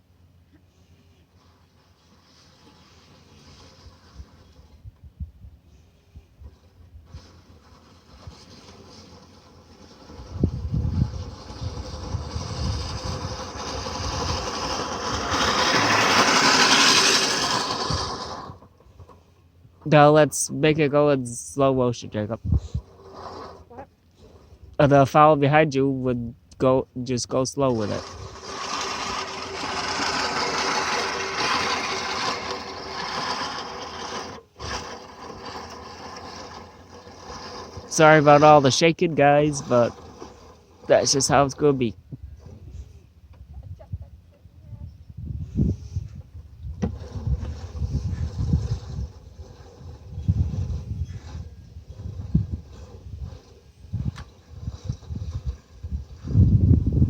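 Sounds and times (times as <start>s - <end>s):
reel mower whirring: 0.0s - 5.0s, 5.6s - 26.0s, 27.0s - 43.5s, 45.4s - 57.0s.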